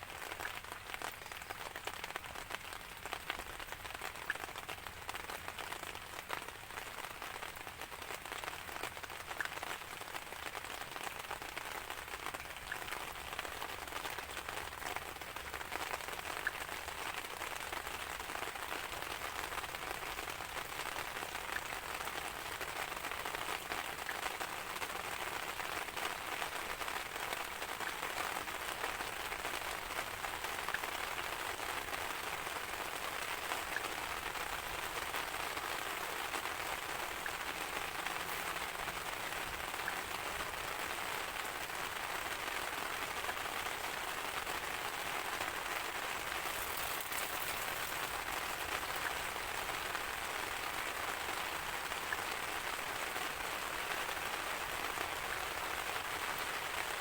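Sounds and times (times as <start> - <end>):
steady rain patter: 0.0 - 57.0.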